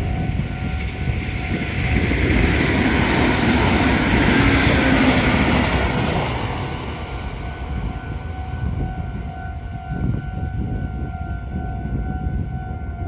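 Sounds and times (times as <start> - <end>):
train wheels rushing on rails: 0.0 - 10.8.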